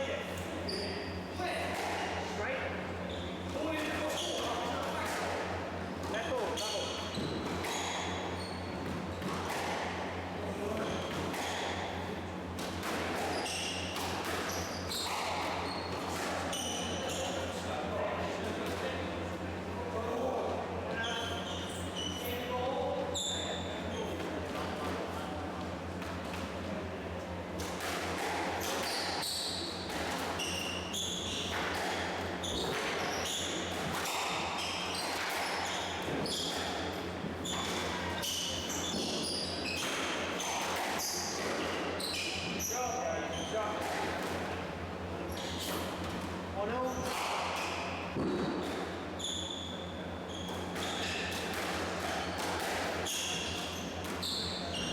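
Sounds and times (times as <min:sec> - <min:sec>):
shoes squeaking on court floor: 0:00.2 - 0:18.0, 0:19.9 - 0:26.7, 0:27.5 - 0:44.6, 0:45.2 - 0:54.9.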